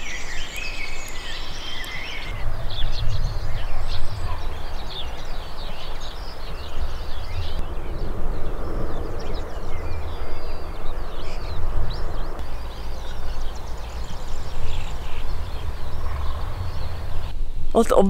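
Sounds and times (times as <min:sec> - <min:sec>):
songbirds chirping and trilling: 0:00.0 - 0:18.0
low rumbling noise: 0:02.0 - 0:17.8.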